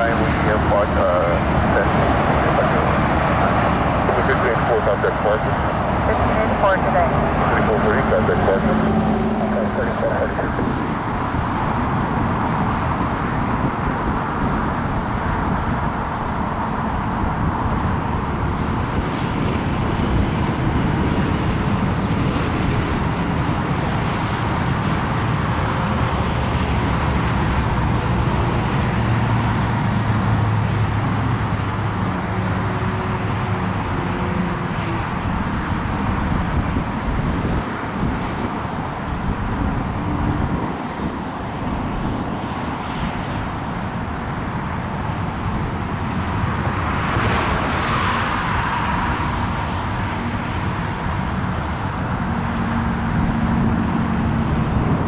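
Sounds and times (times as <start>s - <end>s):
engine rumble: 0.0s - 55.0s.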